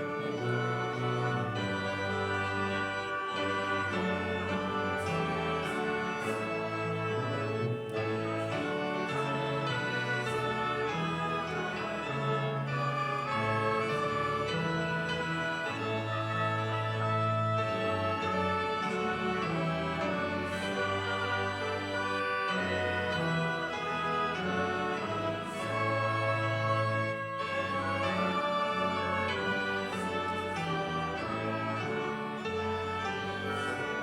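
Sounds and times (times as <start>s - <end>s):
church organ playing a hymn: 0.0s - 34.0s.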